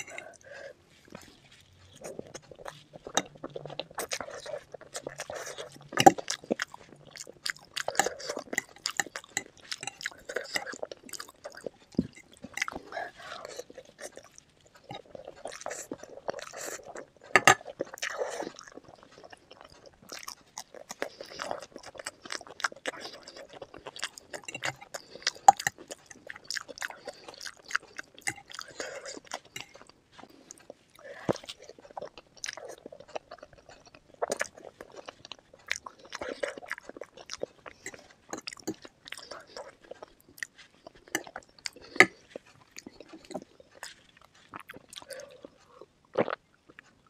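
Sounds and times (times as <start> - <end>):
chewing and crunching: 0.0 - 47.0.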